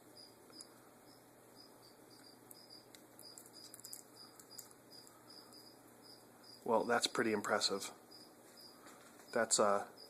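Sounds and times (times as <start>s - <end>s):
cricket chirping faintly: 0.0s - 10.0s.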